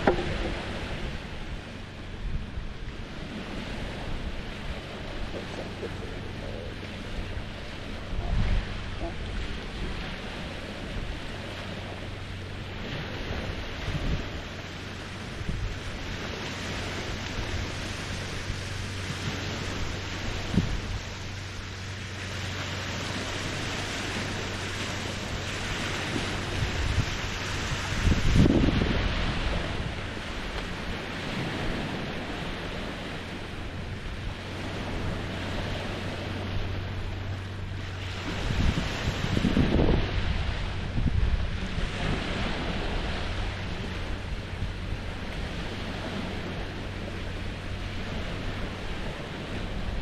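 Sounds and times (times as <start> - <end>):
waves lapping the shore: 0.0 - 50.0
wind bumps on microphone: 0.0 - 50.0.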